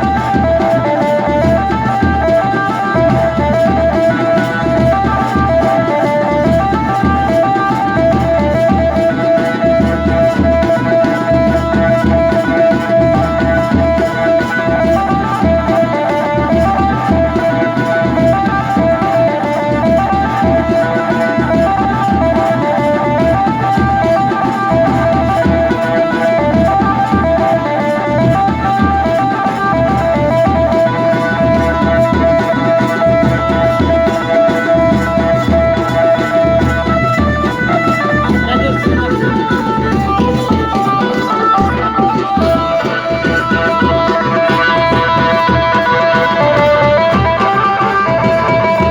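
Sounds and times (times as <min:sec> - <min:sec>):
band melody: 0:00.0 - 0:48.9
steady drum beat: 0:00.0 - 0:48.9.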